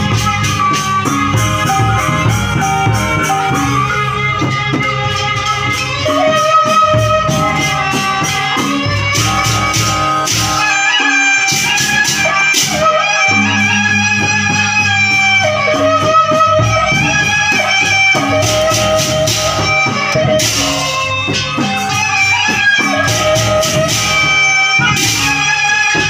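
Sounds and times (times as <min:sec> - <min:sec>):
bamboo flute melody: 0:00.0 - 0:26.0
drums and rattling percussion: 0:00.0 - 0:26.0.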